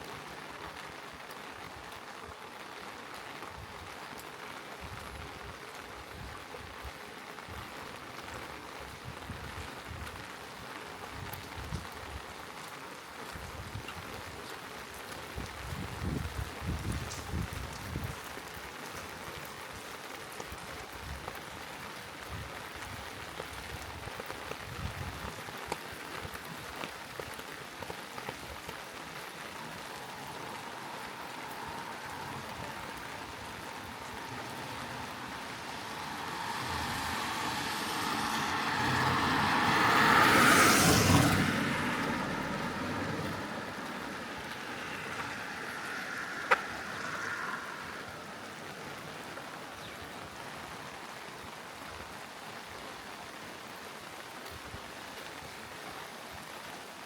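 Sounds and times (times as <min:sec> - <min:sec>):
steady rain: 0:00.0 - 0:57.0
vehicle tyres hissing on wet road: 0:00.0 - 0:57.0.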